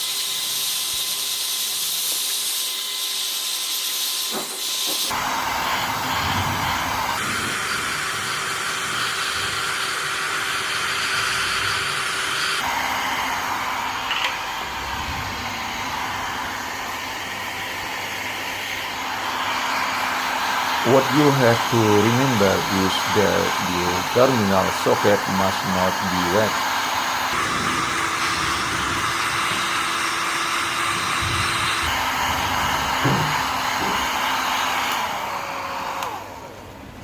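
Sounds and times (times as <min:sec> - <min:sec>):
hair dryer blowing: 0:00.0 - 0:37.0.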